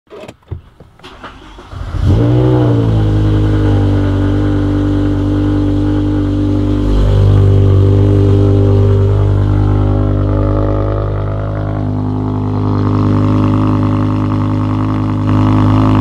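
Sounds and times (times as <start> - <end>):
car engine starting and idling: 0.1 - 16.0.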